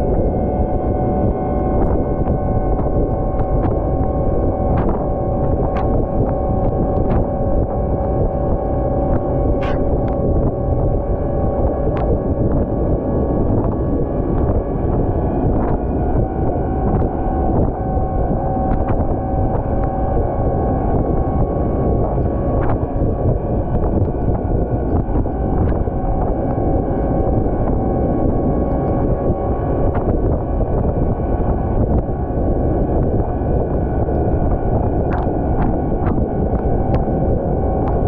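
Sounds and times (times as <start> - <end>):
steady whine: 0.0 - 38.0.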